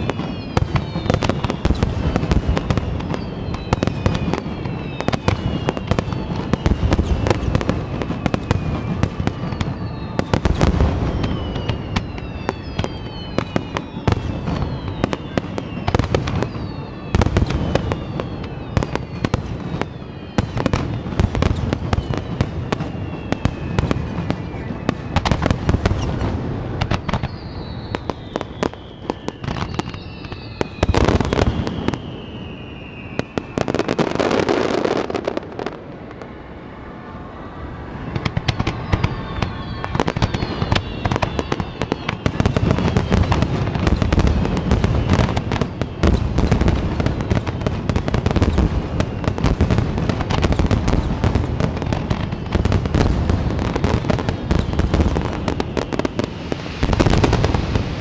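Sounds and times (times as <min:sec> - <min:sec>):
fireworks bursting with bangs: 0:00.0 - 0:58.0
fireworks crackling: 0:00.0 - 0:58.0
fireworks whistling: 0:00.0 - 0:58.0.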